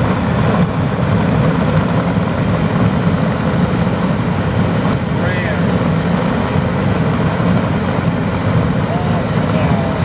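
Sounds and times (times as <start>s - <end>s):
car interior road and engine noise: 0.0s - 10.0s.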